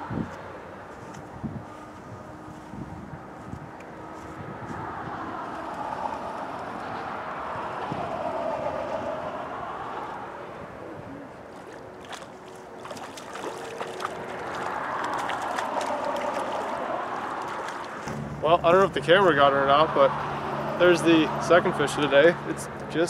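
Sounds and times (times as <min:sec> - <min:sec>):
tyre noise from passing vehicles: 0:00.0 - 0:23.0.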